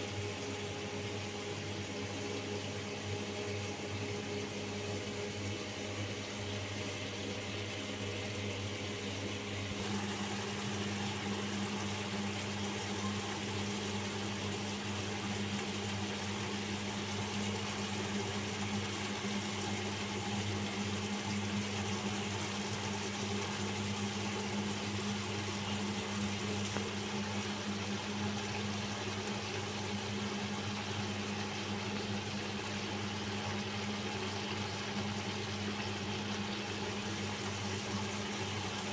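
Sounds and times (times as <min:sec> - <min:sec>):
constant hiss: 0:00.0 - 0:38.9
motor-like hum: 0:00.0 - 0:38.9.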